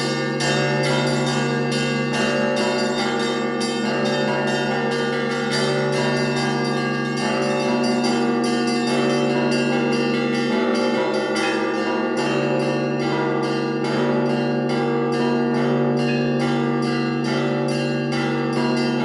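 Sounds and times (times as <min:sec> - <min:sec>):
deep church bell: 0:00.0 - 0:19.0
smaller higher bells ringing: 0:00.0 - 0:19.0.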